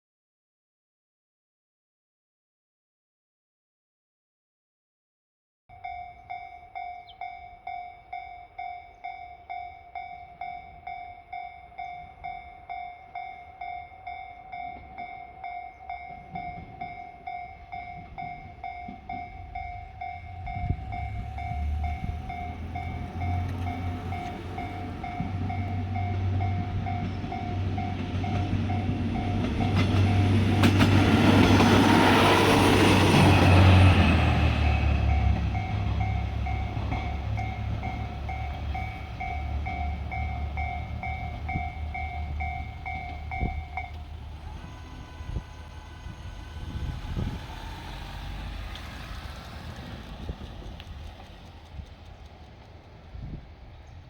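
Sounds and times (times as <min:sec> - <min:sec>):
level-crossing warning bell: 0:05.7 - 0:50.6
train passing loudly: 0:05.7 - 0:54.0
diesel train engine rumble: 0:05.8 - 0:54.0.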